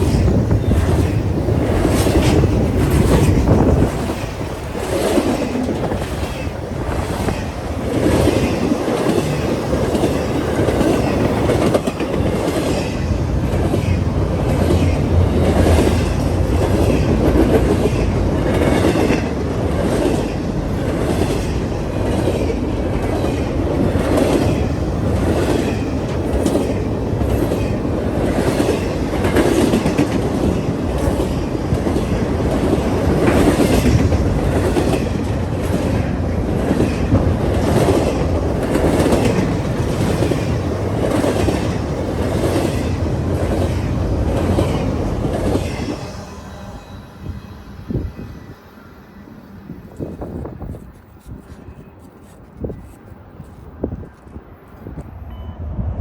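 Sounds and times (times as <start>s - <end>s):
train wheels clacking: 0.0s - 46.2s
train rumble: 0.0s - 56.0s.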